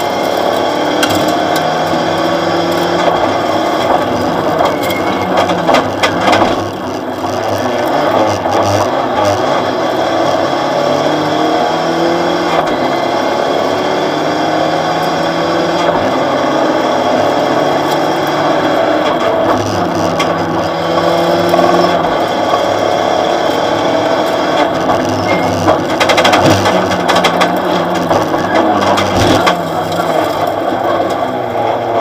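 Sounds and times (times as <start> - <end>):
car engine revving: 0.0 - 32.0
tyre and road noise: 0.0 - 32.0.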